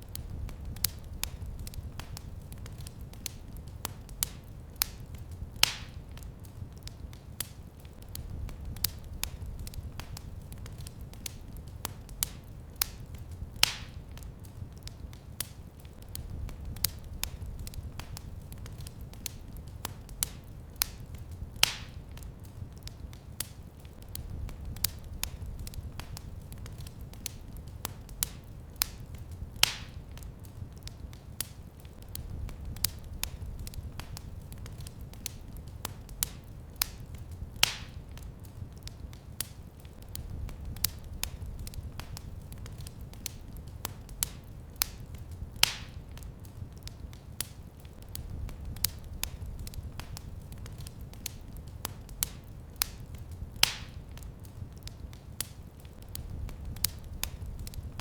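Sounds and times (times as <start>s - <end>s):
fire pops and snaps: 0.0s - 58.0s
low rumble of flames: 0.0s - 58.0s
wood fire crackling: 0.0s - 58.0s.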